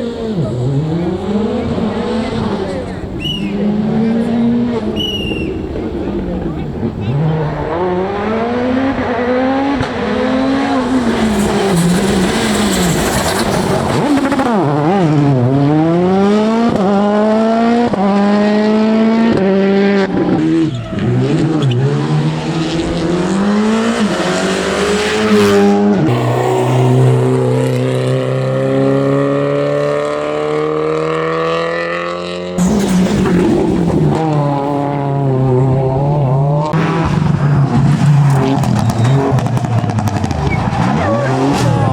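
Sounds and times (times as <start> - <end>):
cars passing close: 0.0 - 41.9
rally car engines revving: 0.0 - 41.9.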